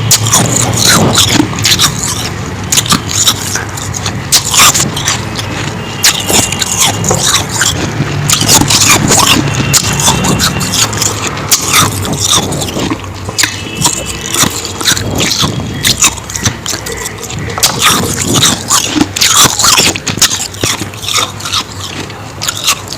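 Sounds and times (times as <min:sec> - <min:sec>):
ice being chewed: 0:00.0 - 0:22.9.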